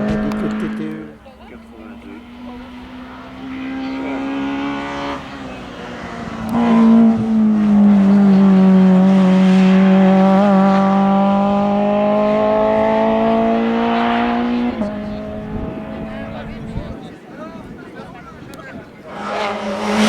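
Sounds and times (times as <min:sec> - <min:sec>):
race car engine accelerating: 0:00.0 - 0:17.0, 0:19.0 - 0:20.0.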